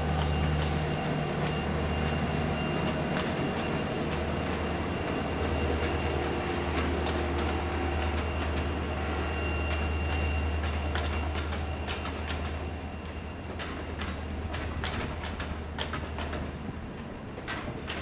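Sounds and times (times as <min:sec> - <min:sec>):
diesel locomotive rumble: 0:00.0 - 0:18.0
wheels clicking over rail joints: 0:00.0 - 0:18.0.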